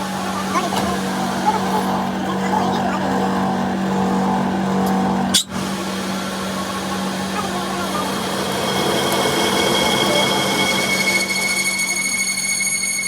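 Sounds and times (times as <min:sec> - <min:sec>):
high steady whine: 0:00.0 - 0:13.0
machine humming: 0:00.0 - 0:13.0.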